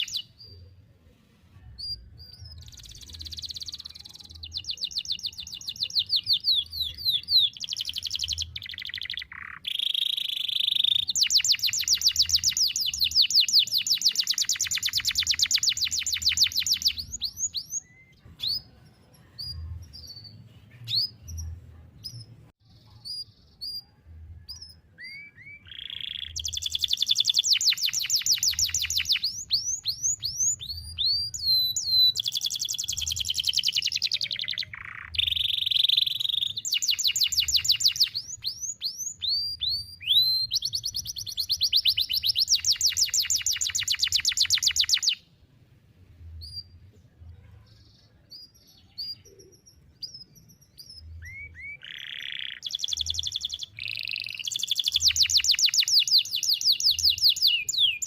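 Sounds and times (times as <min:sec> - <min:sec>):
canary singing trills: 0:00.0 - 0:00.9, 0:01.8 - 0:45.4, 0:46.4 - 0:58.0.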